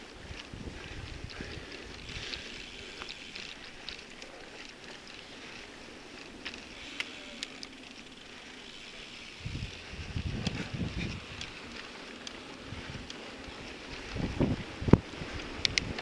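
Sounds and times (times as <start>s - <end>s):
bike clicks and ticks: 0.0s - 16.0s
bike rattling: 0.0s - 16.0s
bike tyres on dirt trail: 0.0s - 16.0s.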